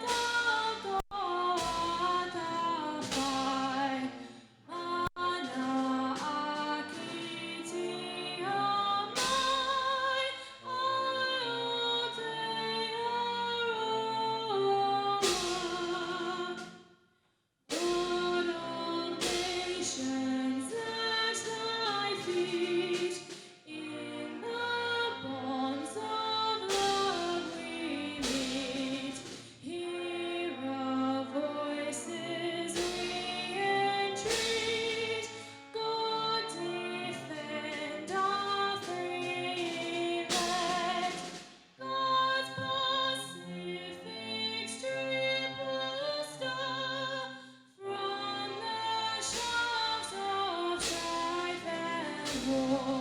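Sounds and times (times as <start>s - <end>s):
woman singing an anthem: 0.0s - 16.7s, 17.7s - 53.0s.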